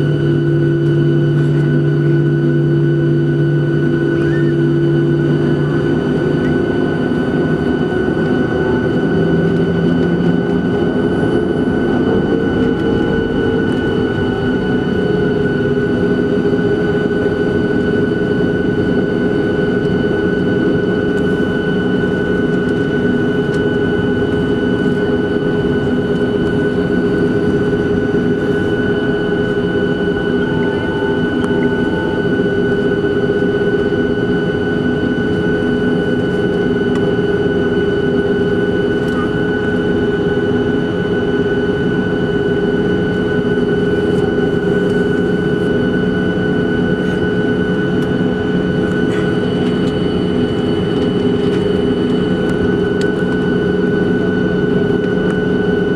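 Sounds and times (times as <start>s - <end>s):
jet engine drone and whine: 0.0s - 55.9s.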